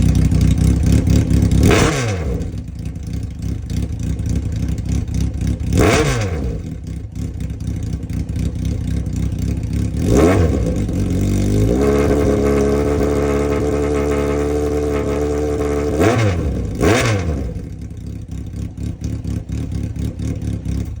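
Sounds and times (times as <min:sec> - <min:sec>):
motorcycle engine lumpy idle: 0:00.0 - 0:21.0
motorcycle engine revving: 0:00.0 - 0:21.0.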